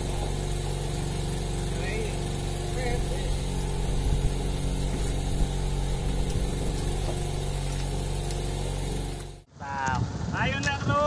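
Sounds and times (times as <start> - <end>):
boat engine running: 0.0 - 9.5.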